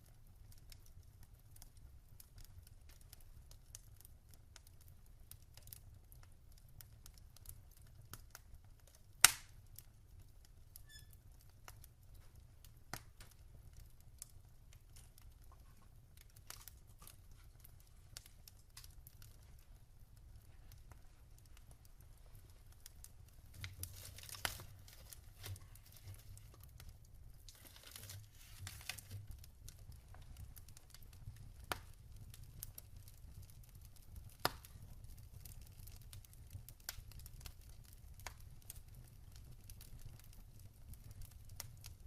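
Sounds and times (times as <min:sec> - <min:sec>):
low rumble of flames: 0:00.0 - 0:42.0
sharp pops from fire: 0:00.0 - 0:42.0
wood fire crackling: 0:00.0 - 0:42.0.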